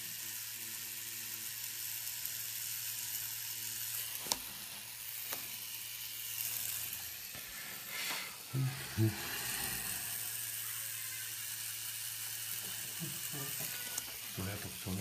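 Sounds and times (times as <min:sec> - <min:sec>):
tattoo machine humming: 0:00.0 - 0:15.0.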